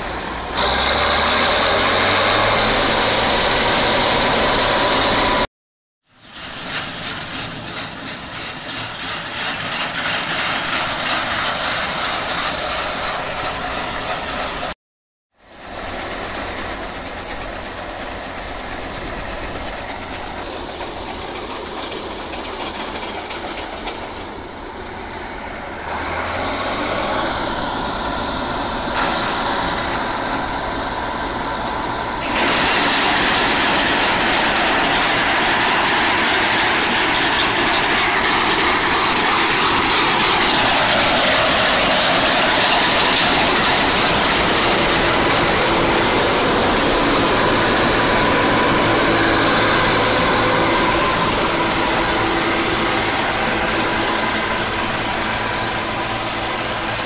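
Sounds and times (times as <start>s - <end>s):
combine harvester running: 0.0s - 5.5s, 6.1s - 57.0s.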